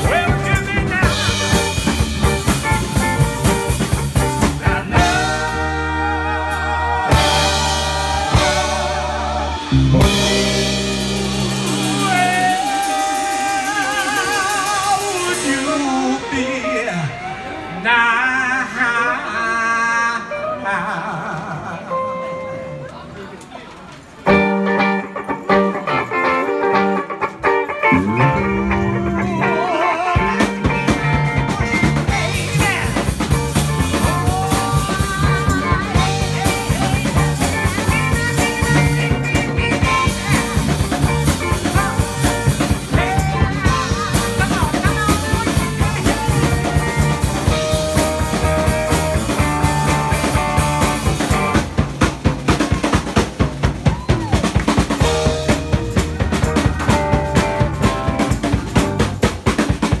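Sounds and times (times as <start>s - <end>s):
live rock band playing: 0.0s - 19.0s, 24.0s - 60.0s.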